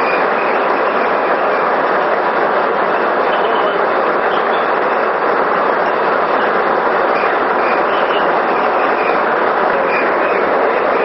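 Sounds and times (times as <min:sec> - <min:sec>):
rushing water through turbine: 0:00.0 - 0:11.0.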